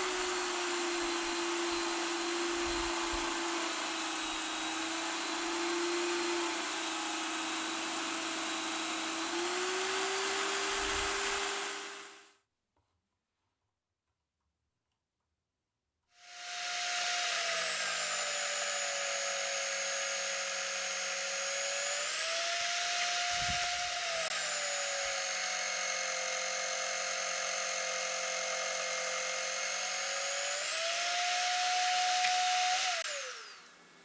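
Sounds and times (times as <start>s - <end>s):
plywood being sanded: 0.0s - 12.1s, 16.3s - 33.2s
electric drill motor whining: 0.0s - 12.3s, 16.2s - 33.8s.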